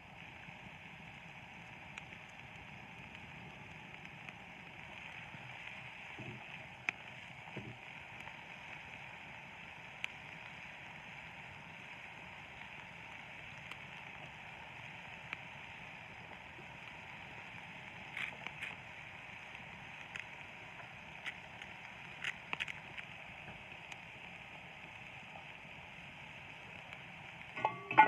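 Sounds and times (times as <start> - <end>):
campfire hissing: 0.0 - 28.0
fire crackling pops: 0.0 - 28.0.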